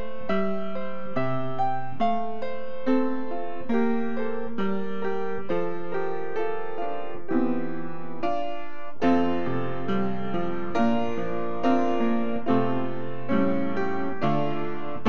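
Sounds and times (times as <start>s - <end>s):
upright piano playing hymn chords: 0.0s - 15.0s.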